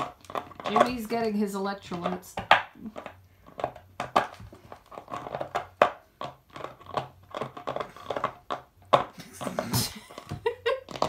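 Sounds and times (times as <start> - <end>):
dog chewing plastic bottle: 0.0 - 11.0.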